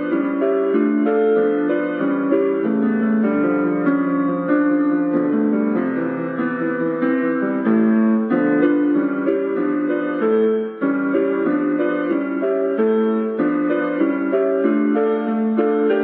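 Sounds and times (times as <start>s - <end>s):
piano-like keyboard music: 0.0s - 16.0s.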